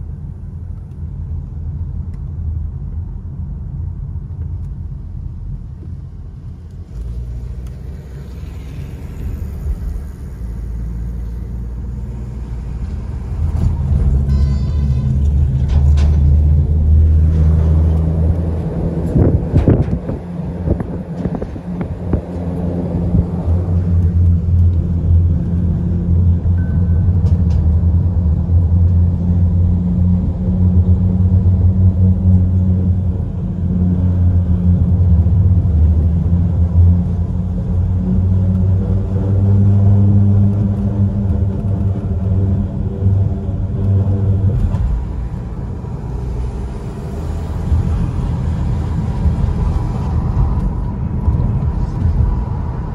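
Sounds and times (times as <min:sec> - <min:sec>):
tyre noise on asphalt: 0:04.3 - 0:52.9
tyres humming on steel bridge deck: 0:04.9 - 0:52.9.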